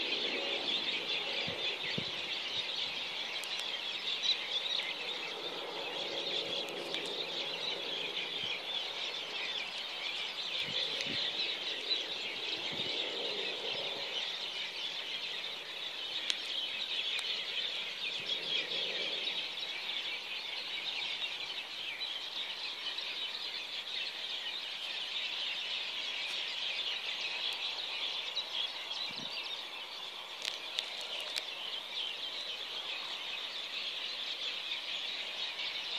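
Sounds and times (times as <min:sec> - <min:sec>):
chorus of birdsong: 0:00.0 - 0:35.9.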